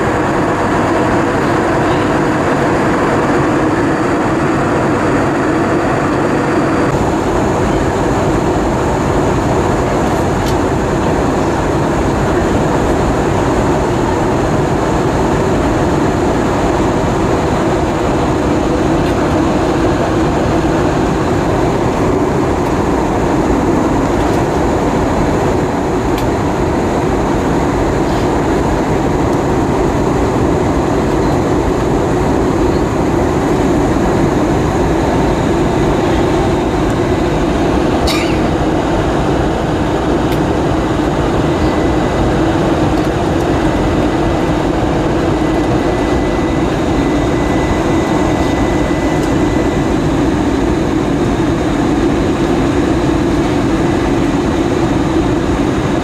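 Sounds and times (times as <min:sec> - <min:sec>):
airplane cabin engine rush: 0:00.0 - 0:56.0.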